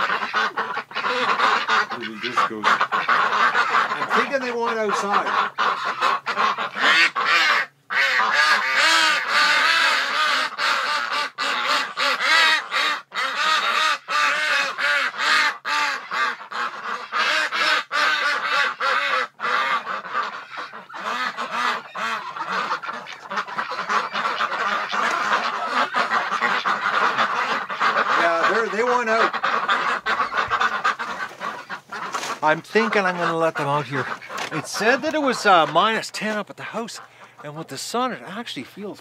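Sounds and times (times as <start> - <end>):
ducks quacking: 0.0 - 39.0.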